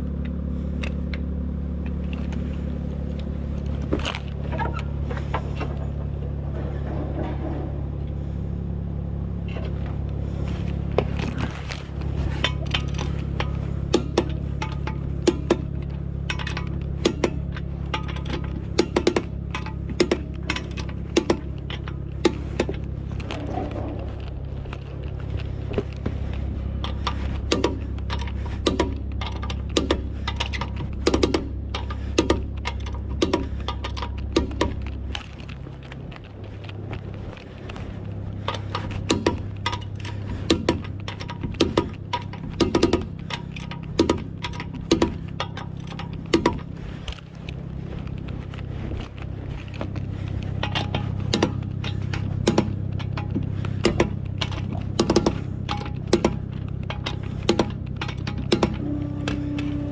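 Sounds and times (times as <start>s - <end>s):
steady low hum: 0.0s - 59.9s
metal tools clinking: 9.5s - 59.9s.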